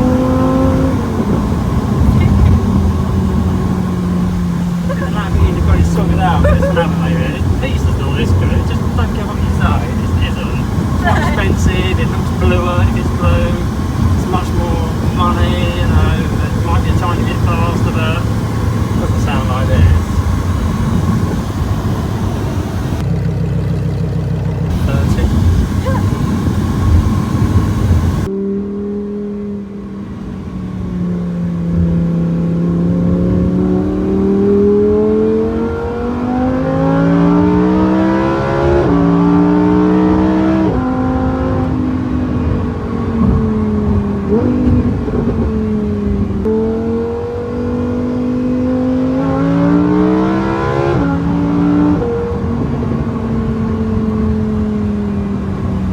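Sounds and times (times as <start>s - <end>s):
car engine accelerating through gears: 0.0s - 55.9s.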